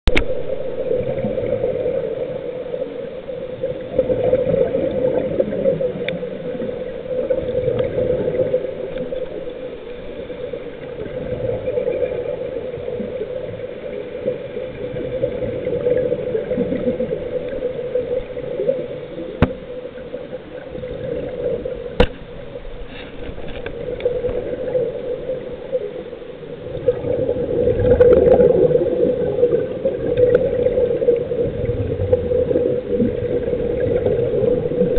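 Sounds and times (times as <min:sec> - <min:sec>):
bubbles gurgling underwater: 0:00.1 - 0:22.7, 0:23.4 - 0:34.9.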